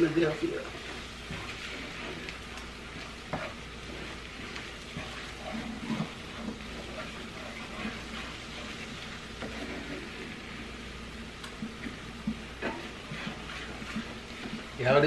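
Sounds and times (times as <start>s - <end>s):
food sizzling in a skillet: 0.0s - 15.0s
wooden spoon scraping a pan: 0.0s - 15.0s.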